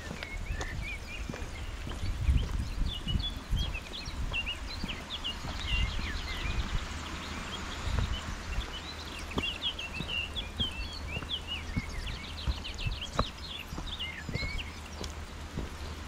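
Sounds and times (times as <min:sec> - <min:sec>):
birds singing: 0:00.0 - 0:16.0
footsteps on dirt path: 0:00.0 - 0:16.0.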